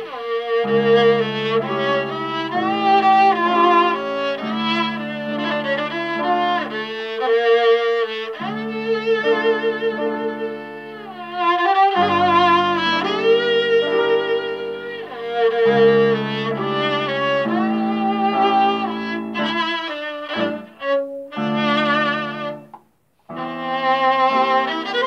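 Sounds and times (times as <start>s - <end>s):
bowed fiddle melody with vibrato: 0.0s - 25.0s.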